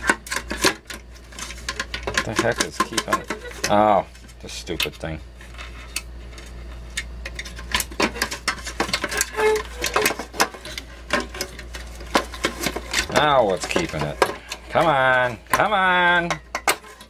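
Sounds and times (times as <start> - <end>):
clicks and rattles of electronic parts: 0.0 - 17.0
steady low hum: 0.0 - 17.0.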